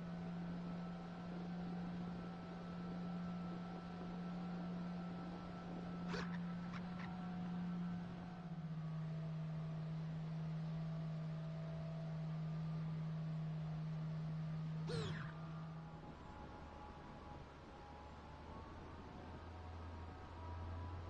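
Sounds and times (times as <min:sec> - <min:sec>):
electric motor and propeller humming: 0:00.0 - 0:20.0.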